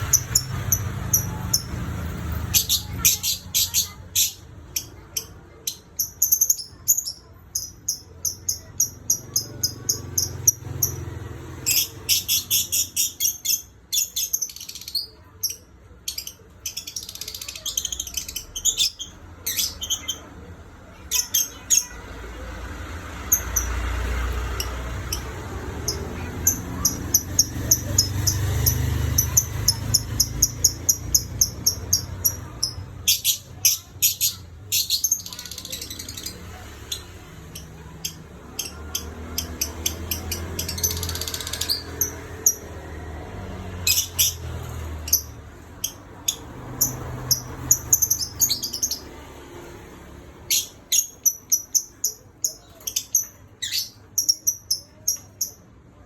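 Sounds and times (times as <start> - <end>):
lovebird chirping: 0.0 - 20.3, 23.3 - 42.7, 43.8 - 49.2, 50.5 - 55.7.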